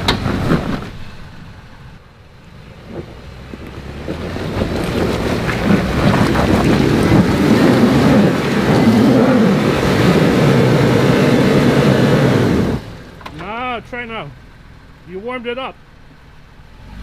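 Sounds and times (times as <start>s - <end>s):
truck engine revving: 0.0s - 15.2s, 16.0s - 17.0s.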